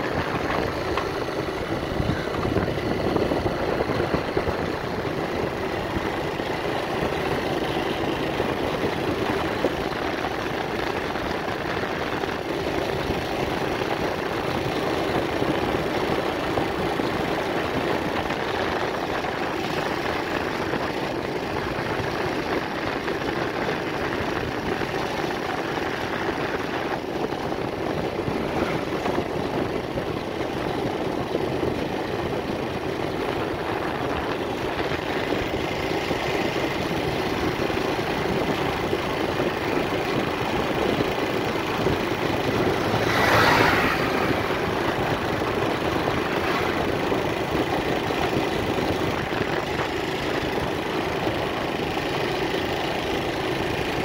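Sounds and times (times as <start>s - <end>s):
road and wind noise: 0.0s - 54.0s
vehicle engine running: 0.0s - 54.0s.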